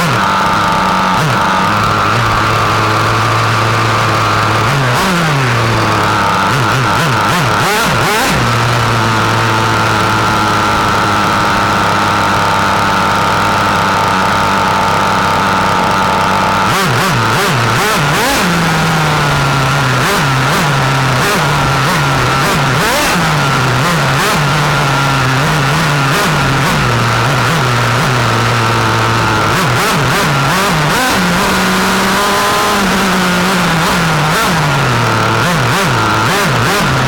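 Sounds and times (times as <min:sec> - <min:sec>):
nitro engine revving: 0:00.0 - 0:37.0.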